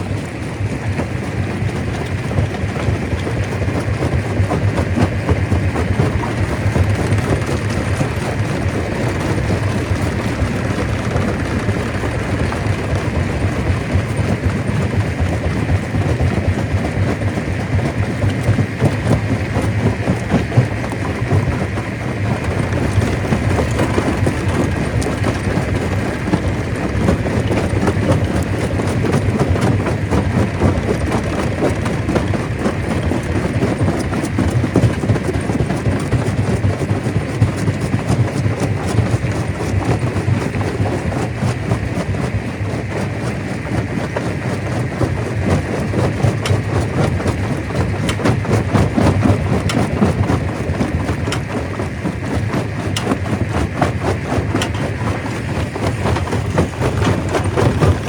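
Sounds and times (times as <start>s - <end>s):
rock knocking and grinding: 0.0s - 58.0s
stone crusher running: 0.0s - 58.0s.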